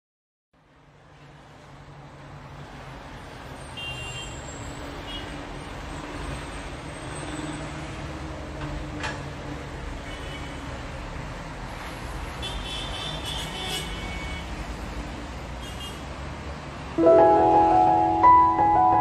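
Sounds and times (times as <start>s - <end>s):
road traffic rumble: 0.6s - 19.0s.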